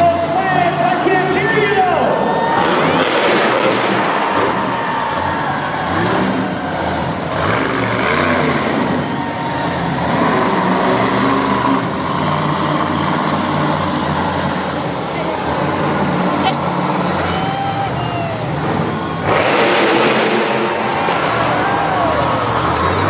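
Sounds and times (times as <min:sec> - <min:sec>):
arena noise: 0:00.0 - 0:23.0
monster truck engine revving: 0:00.0 - 0:23.0.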